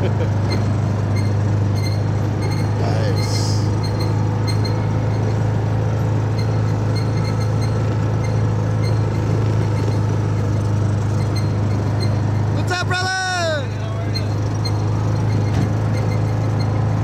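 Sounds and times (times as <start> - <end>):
vehicle interior drone and road noise: 0.0 - 17.0.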